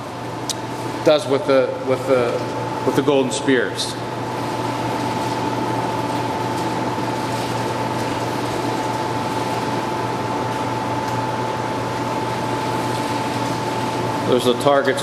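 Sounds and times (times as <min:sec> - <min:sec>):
mechanical hum and hiss: 0:00.0 - 0:15.0.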